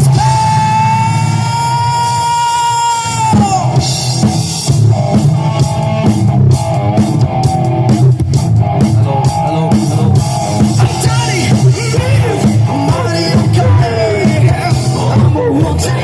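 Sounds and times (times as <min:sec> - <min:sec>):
rock band playing loud: 0:00.0 - 0:16.0.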